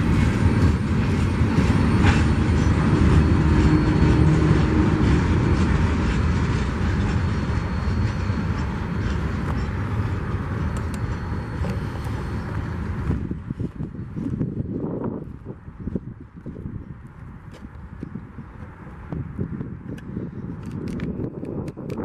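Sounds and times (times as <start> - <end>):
train cars rumbling and rattling: 0.0 - 22.0.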